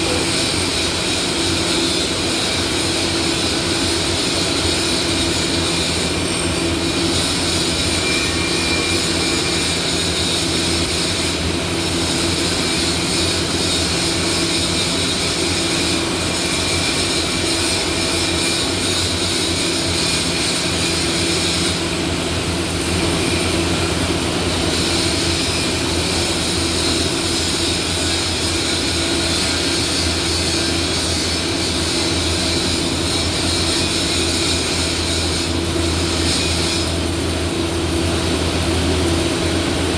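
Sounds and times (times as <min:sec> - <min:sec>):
machine drone: 0:00.0 - 0:39.9.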